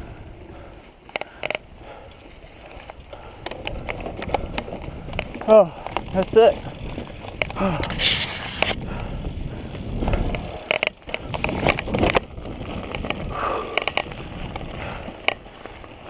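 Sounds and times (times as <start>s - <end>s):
bike rattling over bumps: 0.0s - 16.0s
bike tyres crunching over gravel: 0.0s - 16.0s.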